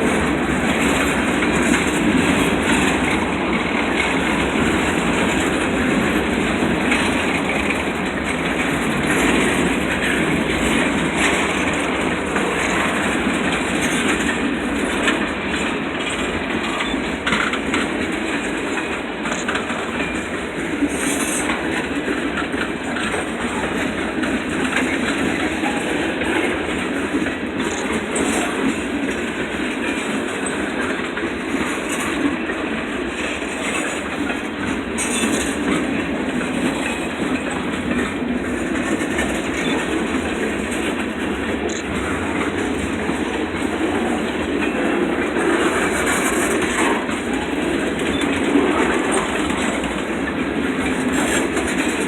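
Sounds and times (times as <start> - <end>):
freight train rumbling past: 0.0 - 52.0
wheels clacking over rail joints: 0.0 - 52.0.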